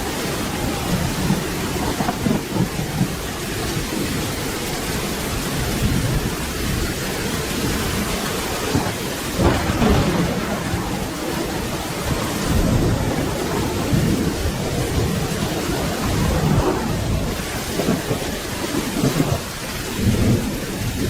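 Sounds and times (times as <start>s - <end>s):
low rolling thunder: 0.0s - 21.0s
steady rain falling: 0.0s - 21.0s.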